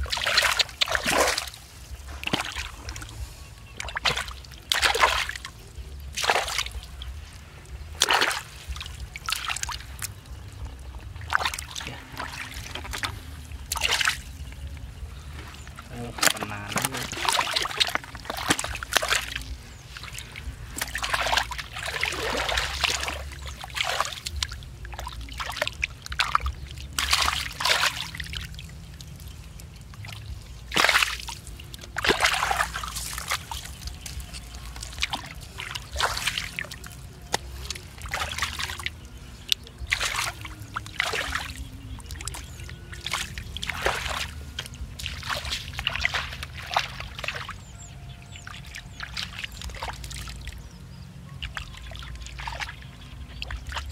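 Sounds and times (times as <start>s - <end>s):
muddy water sloshing and splashing: 0.0s - 53.9s.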